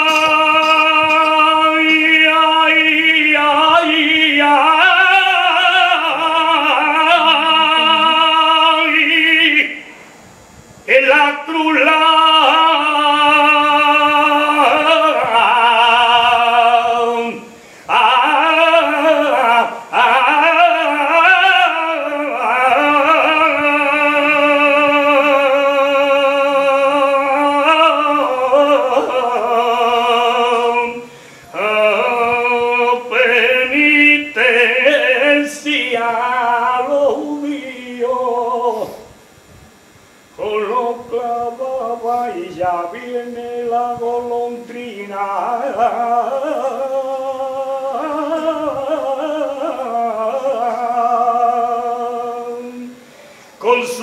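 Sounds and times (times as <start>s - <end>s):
man singing unaccompanied: 0.0s - 10.0s, 10.8s - 39.2s, 40.2s - 54.0s.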